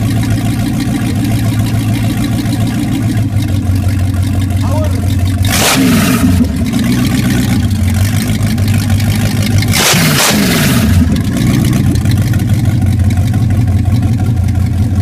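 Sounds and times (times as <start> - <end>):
car engine idling: 0.0 - 15.0
engine throttle blips: 0.0 - 15.0.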